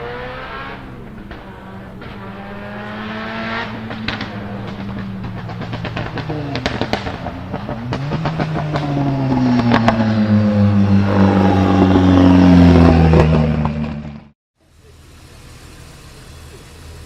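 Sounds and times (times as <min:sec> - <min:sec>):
turbocharged engine under load: 0:00.0 - 0:17.0
exhaust pops and crackles: 0:00.4 - 0:14.3.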